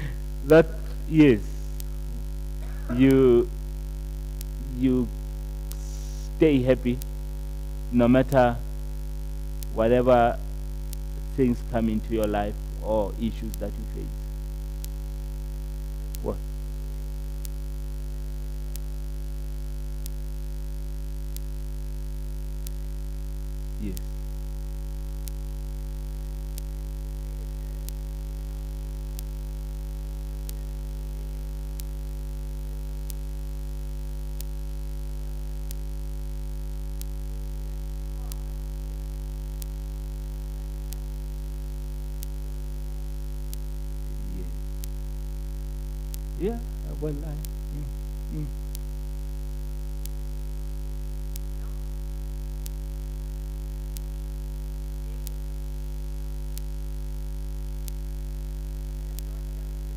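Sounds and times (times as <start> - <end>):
electrical mains hum: 0.0 - 59.9
faint regular ticks: 0.0 - 59.9.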